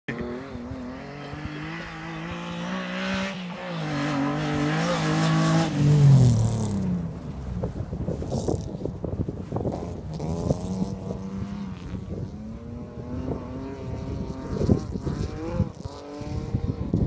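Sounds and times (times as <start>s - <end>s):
race car engine revving: 0.1s - 8.9s, 9.6s - 17.0s.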